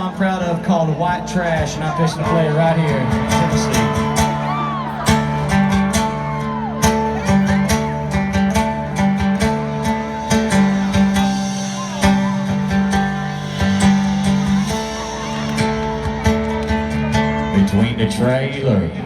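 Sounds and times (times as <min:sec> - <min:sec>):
country band playing: 0:00.0 - 0:19.0.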